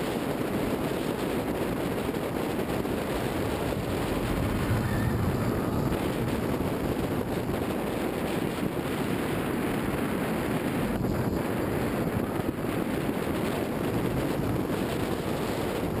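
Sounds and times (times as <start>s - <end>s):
wind buffeting camera: 0.0s - 16.0s
roller coaster wheels rumbling: 0.2s - 16.0s.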